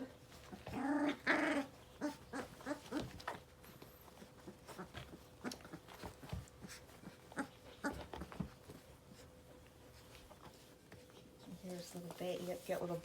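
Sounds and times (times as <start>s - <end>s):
puppies grunting and squeaking: 0.0s - 11.7s
puppies scuffling: 0.0s - 13.0s.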